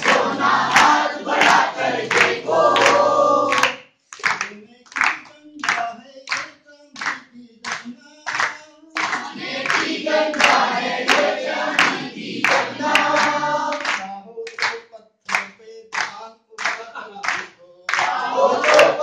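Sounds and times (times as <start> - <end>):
voices singing together: 0.0 - 6.4, 7.0 - 19.0
group clapping in rhythm: 0.0 - 19.0.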